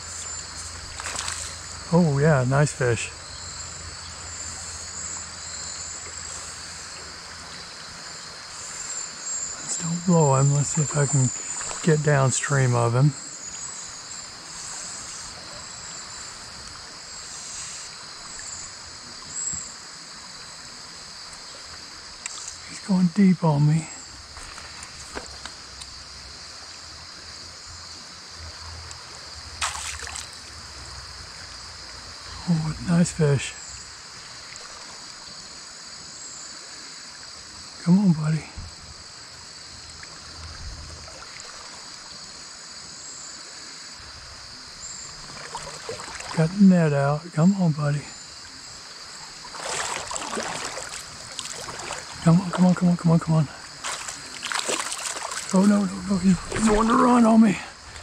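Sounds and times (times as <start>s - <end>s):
creek water rushing: 0.0s - 58.0s
insects chirring: 0.0s - 58.0s.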